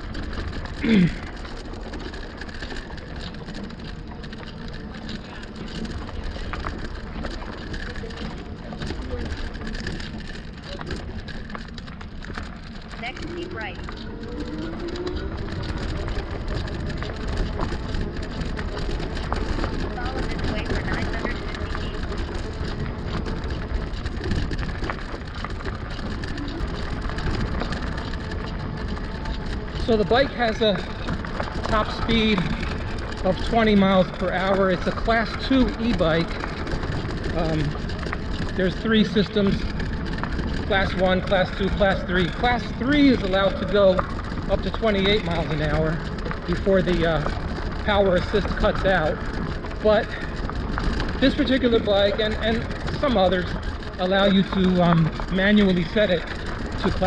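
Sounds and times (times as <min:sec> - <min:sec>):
bike tyres rumbling over trail: 0:00.0 - 0:57.0.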